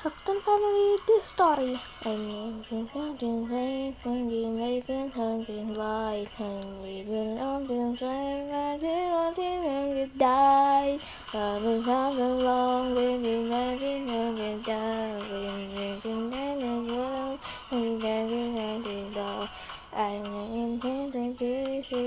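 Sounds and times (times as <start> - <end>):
woman singing wordless melody: 0.0 - 22.0.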